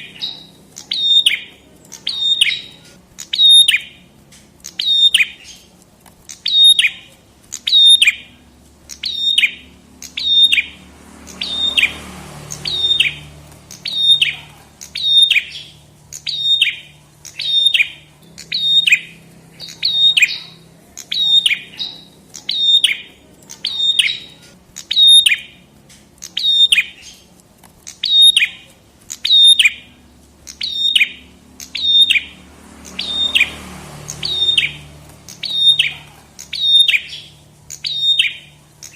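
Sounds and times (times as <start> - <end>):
songbird calling: 0.0 - 38.9.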